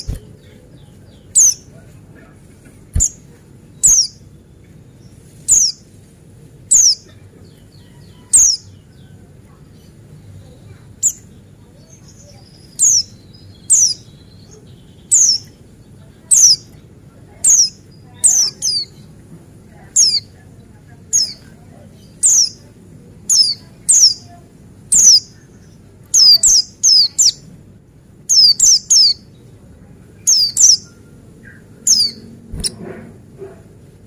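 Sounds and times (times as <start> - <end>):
faint bird twitter: 0.0 - 5.9, 6.7 - 19.2, 19.9 - 22.7, 23.3 - 27.5, 28.3 - 32.9.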